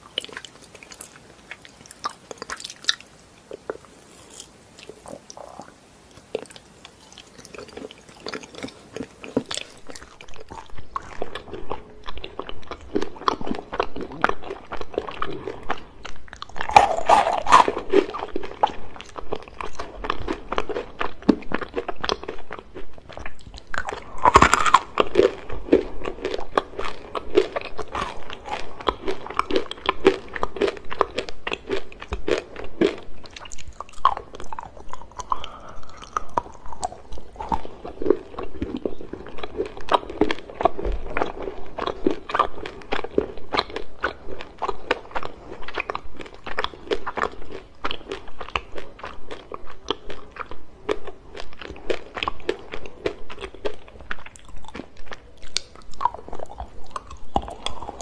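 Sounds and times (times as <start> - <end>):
chewing: 0.0 - 58.0
chocolate crunching and snapping: 0.0 - 58.0.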